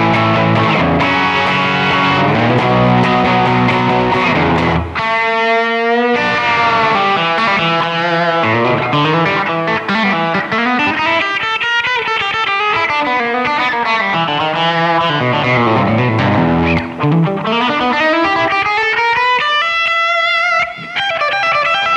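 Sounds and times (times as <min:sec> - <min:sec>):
electric guitar through amplifier: 0:00.0 - 0:21.9.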